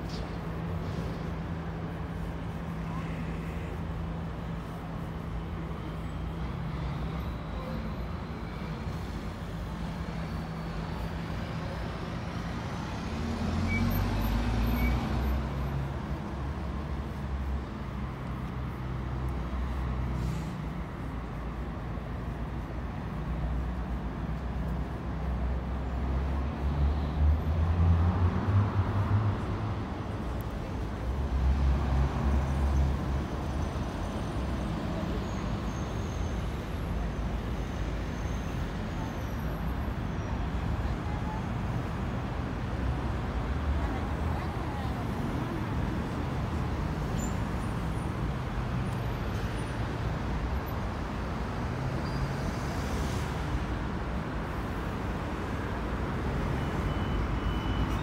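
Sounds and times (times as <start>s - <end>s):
heavy vehicle rumbling: 0.0s - 51.7s
bus passing with whine: 0.0s - 58.0s
road traffic rumble: 0.0s - 58.0s.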